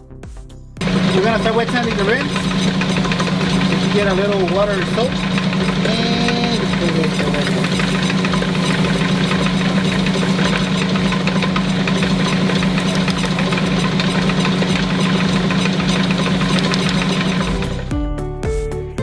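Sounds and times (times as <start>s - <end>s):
power sander humming: 0.8s - 17.9s.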